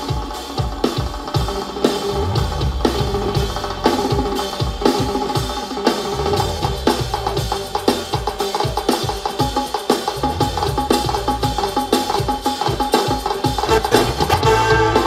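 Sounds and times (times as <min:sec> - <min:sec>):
break-dance music with heavy bass: 0:00.0 - 0:15.0.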